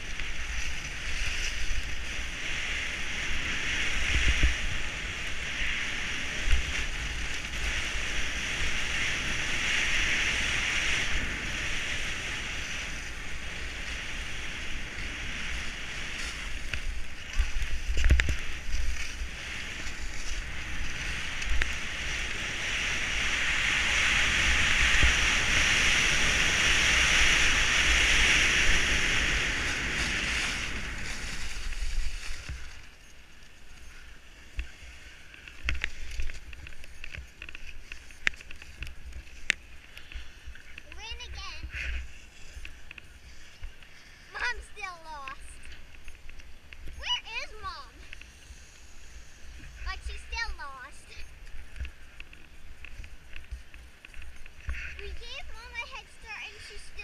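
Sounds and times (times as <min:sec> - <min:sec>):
skis scraping over snow: 0:00.0 - 0:57.0.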